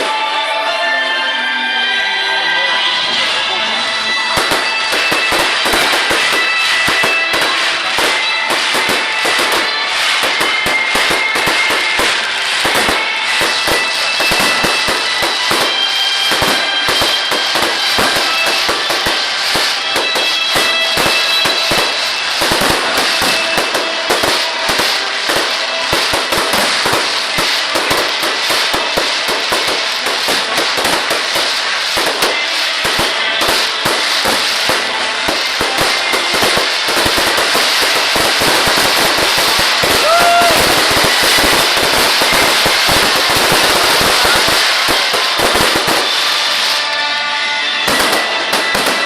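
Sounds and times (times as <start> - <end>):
fireworks bangs and crackling pops: 0.0 - 0.3, 3.1 - 49.0
music playing: 0.0 - 49.0.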